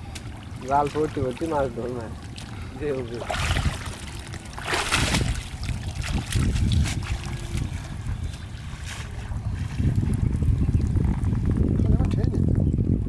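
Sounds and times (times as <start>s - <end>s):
water splashing and sloshing: 0.0s - 12.4s
wind rumbling on microphone: 0.0s - 13.0s.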